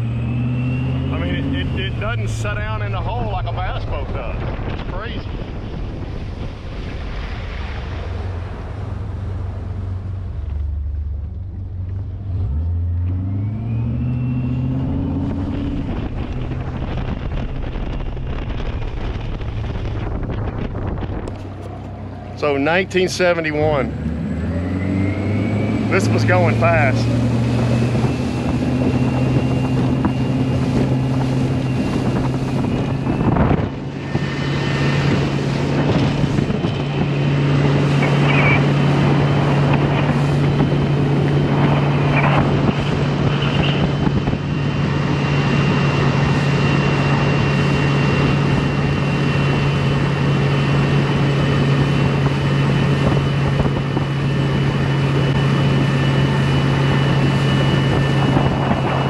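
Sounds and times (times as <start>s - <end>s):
outboard motor running: 0.0s - 59.0s
wind on microphone: 0.0s - 59.0s.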